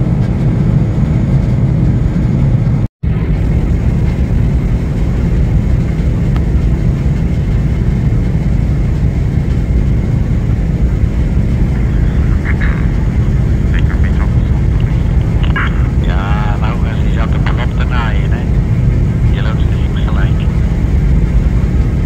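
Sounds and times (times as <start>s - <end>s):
ship engine low rumble: 0.0s - 22.0s.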